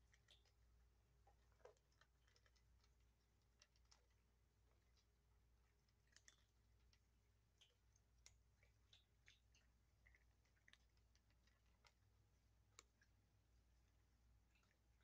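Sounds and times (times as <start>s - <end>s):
kittens crunching dry kibble: 0.0s - 15.0s.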